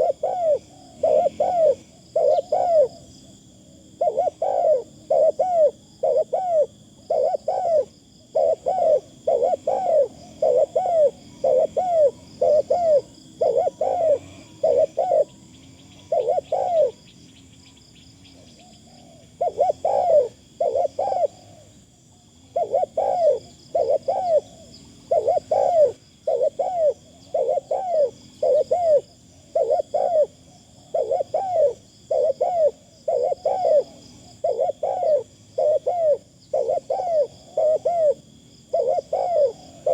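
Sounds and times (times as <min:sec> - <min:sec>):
dove cooing: 0:00.0 - 0:39.9
high insect buzz: 0:00.0 - 0:39.9.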